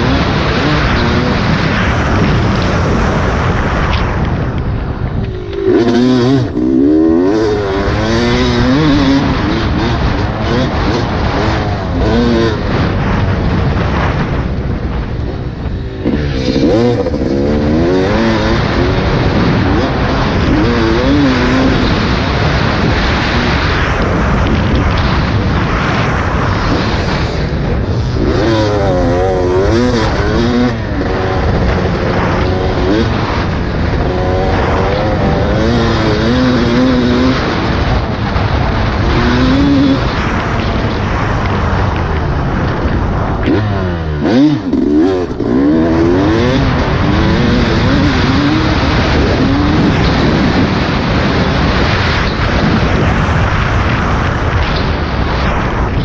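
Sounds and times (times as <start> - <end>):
dirt bike engine revving: 0.0 - 56.0
steady rushing noise: 0.0 - 56.0.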